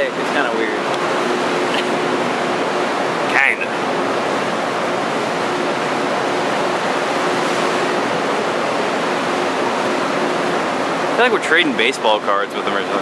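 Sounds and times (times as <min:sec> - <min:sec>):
faint steady hum: 0:00.0 - 0:13.0
sea water rushing between hulls: 0:00.0 - 0:13.0.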